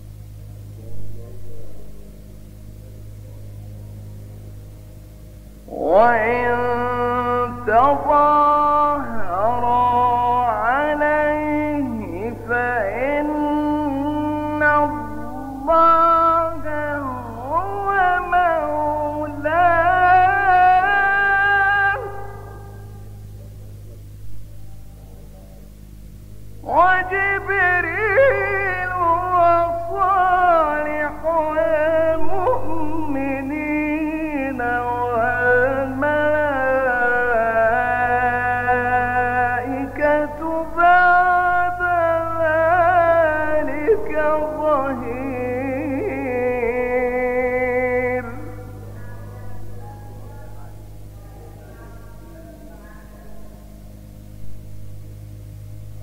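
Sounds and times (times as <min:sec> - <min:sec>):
man chanting melodically: 0:00.0 - 0:04.4, 0:05.5 - 0:54.6
steady low hum: 0:00.0 - 0:56.0.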